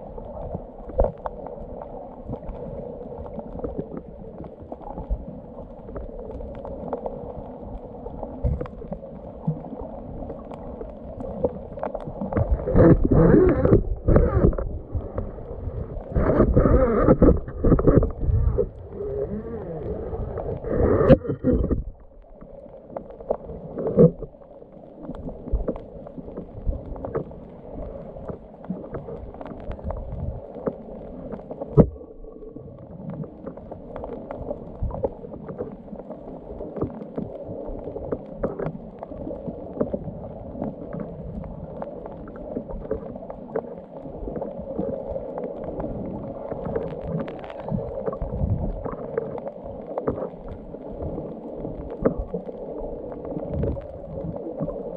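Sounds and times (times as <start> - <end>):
clicks and crackles: 0.0 - 54.9
underwater water rush: 0.0 - 54.9.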